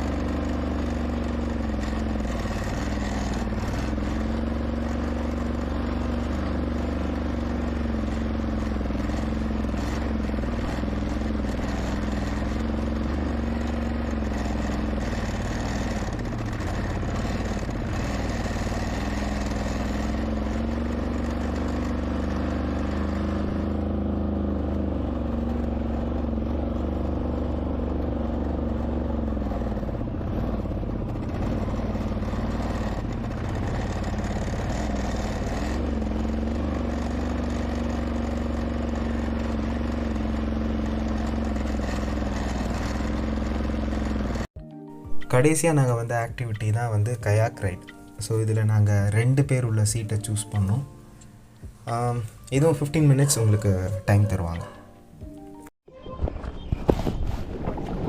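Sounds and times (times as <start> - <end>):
small atv engine running: 0.0 - 44.6, 45.9 - 54.9.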